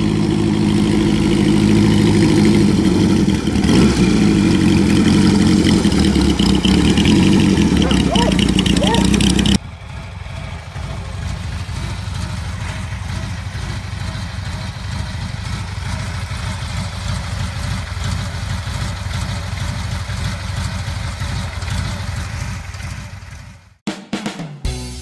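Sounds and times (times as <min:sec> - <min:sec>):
motorcycle engine idling: 0:00.0 - 0:23.8.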